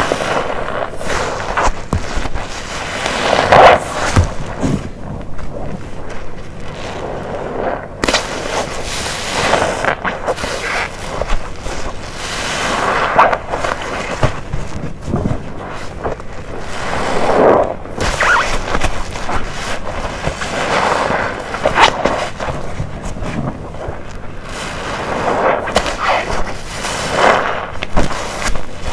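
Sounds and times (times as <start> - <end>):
sponge squelching: 0.0 - 28.9.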